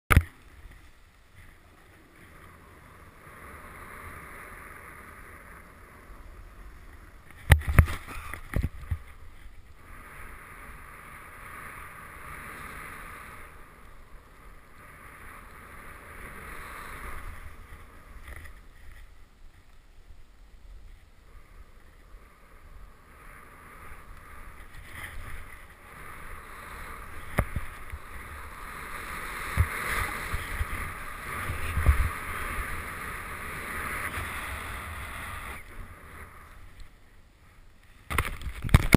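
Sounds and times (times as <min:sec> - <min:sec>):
snowboard sliding through snow: 0:00.3 - 0:38.9.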